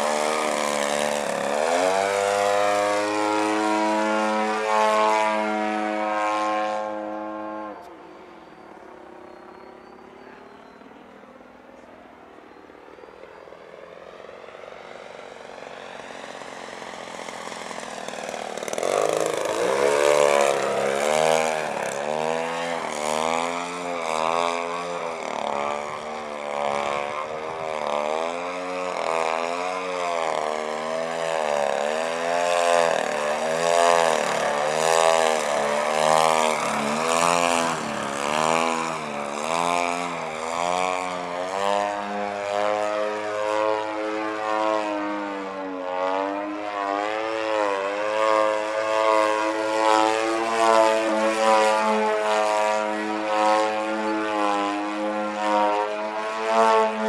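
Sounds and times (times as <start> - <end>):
model plane engine: 0.0 - 57.0.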